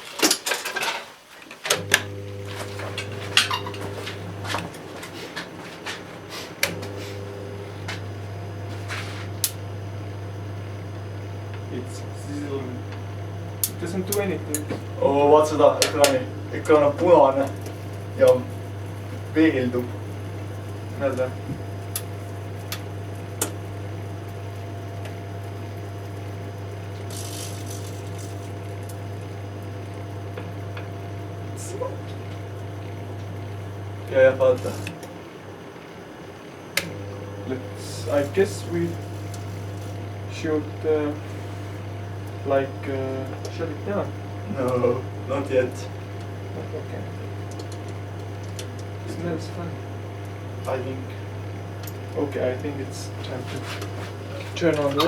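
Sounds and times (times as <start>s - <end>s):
microwave oven humming: 0.4s - 55.0s.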